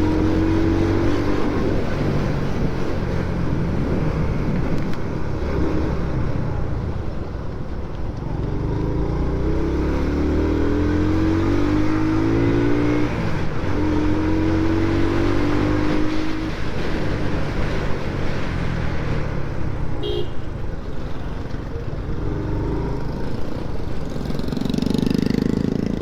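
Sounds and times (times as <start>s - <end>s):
motorcycle engine accelerating: 0.0s - 7.1s, 8.2s - 20.3s, 20.9s - 26.0s
road and wind rumble: 0.0s - 26.0s.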